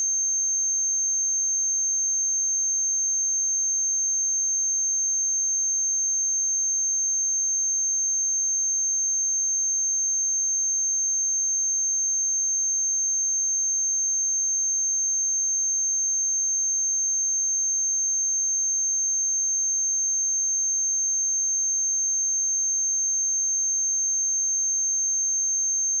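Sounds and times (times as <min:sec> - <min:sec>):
high-pitched sine-wave test tone: 0:00.0 - 0:26.0.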